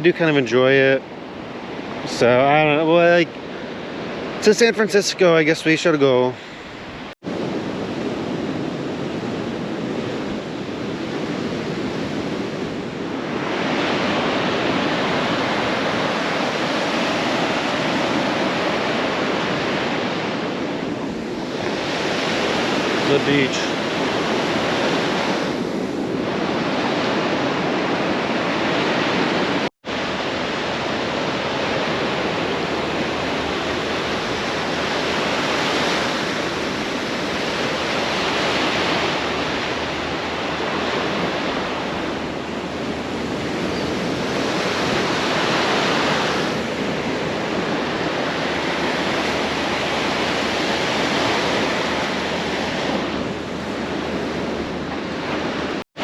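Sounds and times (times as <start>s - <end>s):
ocean surf washing onto beach: 0.0s - 56.0s.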